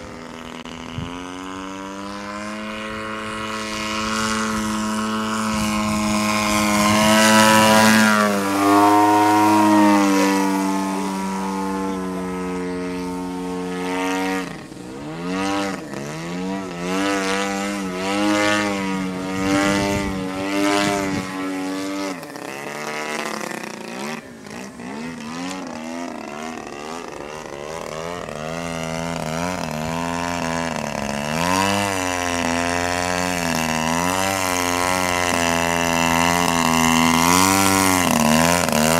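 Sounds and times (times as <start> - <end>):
model plane engine and propeller: 0.0 - 38.9.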